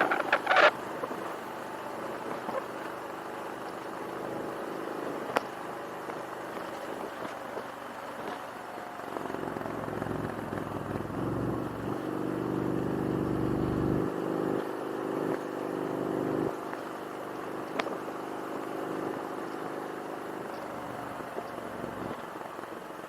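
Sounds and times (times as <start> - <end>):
motorcycle engine running: 0.0 - 23.0
road and wind noise: 0.0 - 23.0.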